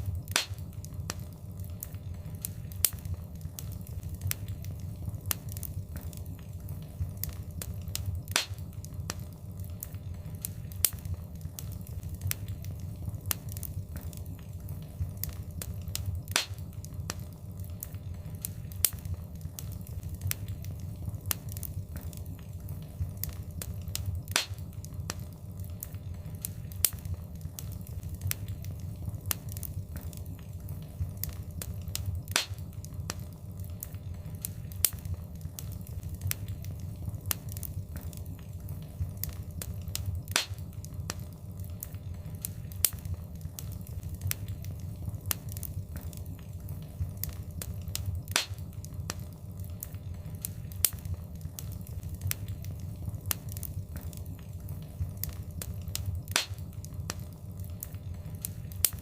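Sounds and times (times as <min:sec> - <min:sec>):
low rumble of flames: 0:00.0 - 0:59.0
sharp fire pops: 0:00.0 - 0:59.0
wood fire crackling: 0:00.0 - 0:59.0.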